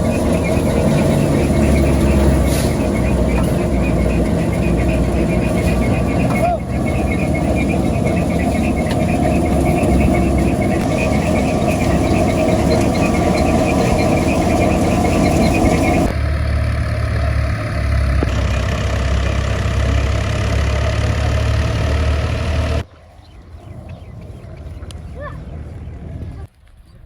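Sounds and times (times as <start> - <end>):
machinery low hum: 0.0 - 26.5.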